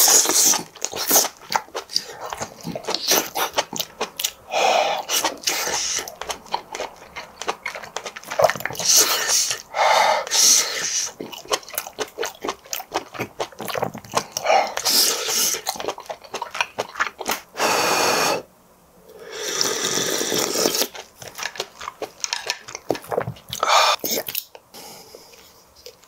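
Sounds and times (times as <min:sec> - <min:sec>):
wet chewing clicks: 0:00.0 - 0:04.4, 0:05.0 - 0:17.5, 0:20.2 - 0:24.7.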